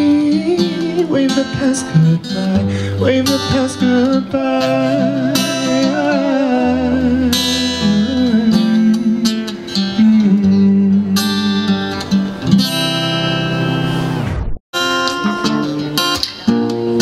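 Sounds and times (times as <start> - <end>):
acoustic guitar strumming chords: 0.0 - 14.2, 14.8 - 17.0.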